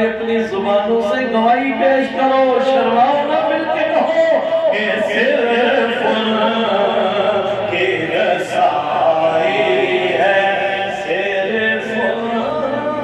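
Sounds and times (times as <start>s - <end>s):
men chanting: 1.3s - 13.0s.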